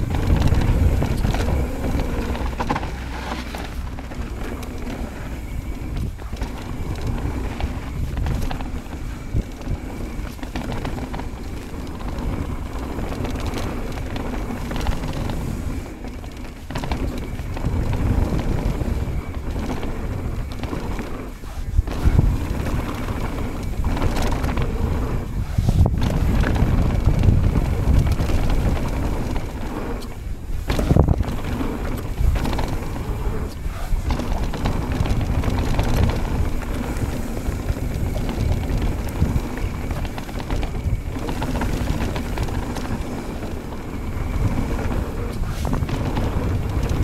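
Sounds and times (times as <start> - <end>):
bike tyres rumbling on gravel: 0.0 - 47.0
wind buffeting microphone: 0.0 - 47.0.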